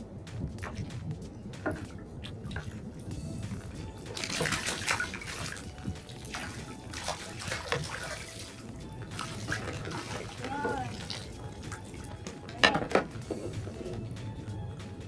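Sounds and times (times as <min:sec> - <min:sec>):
water splashing against kayak hull: 0:00.5 - 0:14.2.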